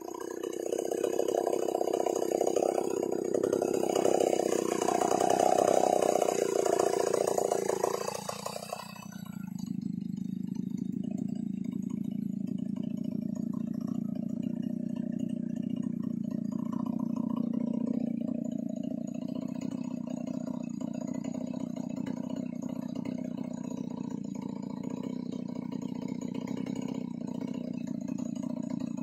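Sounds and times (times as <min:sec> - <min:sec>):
chainsaw cutting through log: 0:00.0 - 0:29.0.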